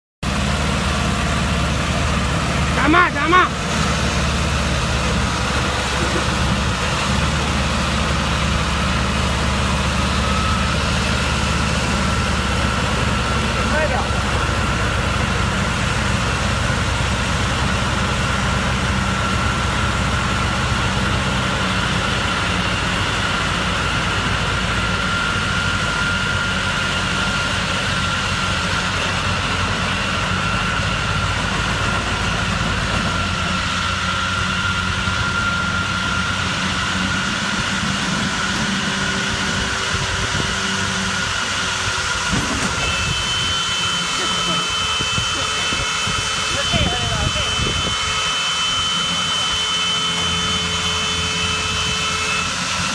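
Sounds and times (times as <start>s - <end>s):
steady high whine: 0.2s - 52.9s
tractor diesel engine running: 0.2s - 52.9s.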